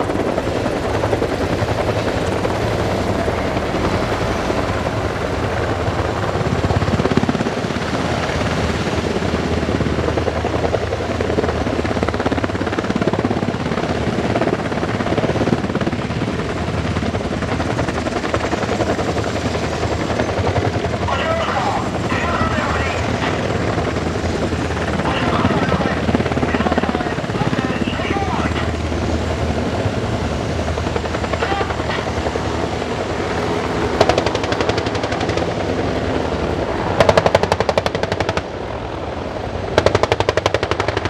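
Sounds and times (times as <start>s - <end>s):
helicopter rotor chop: 0.0s - 41.0s.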